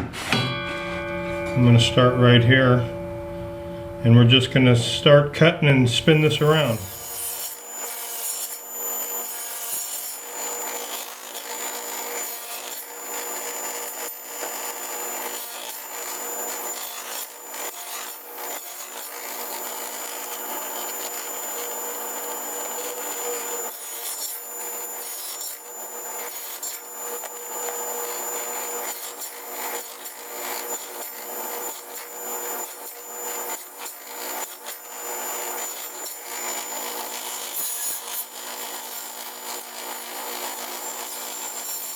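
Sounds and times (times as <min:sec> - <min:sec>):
power saw motor whine: 0:05.9 - 0:41.9
saw rasping through wood: 0:06.0 - 0:41.9.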